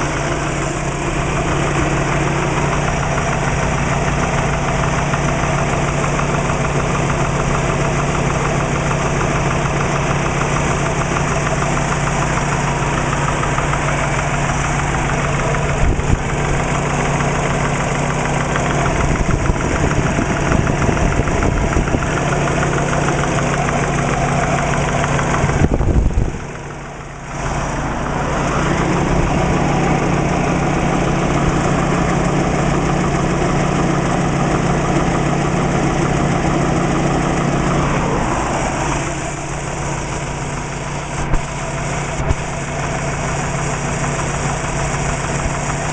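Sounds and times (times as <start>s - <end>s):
engine idling with rapid knocking: 0.0s - 45.9s.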